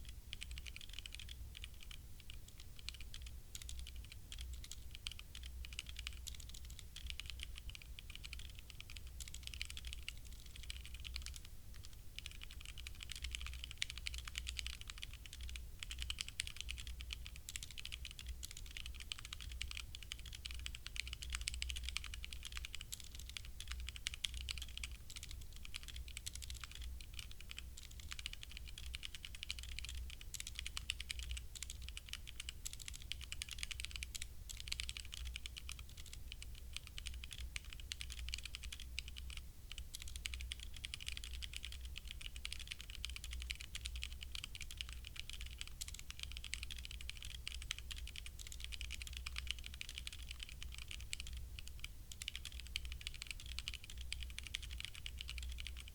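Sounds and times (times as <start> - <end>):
mechanical keyboard typing: 0.0 - 55.9.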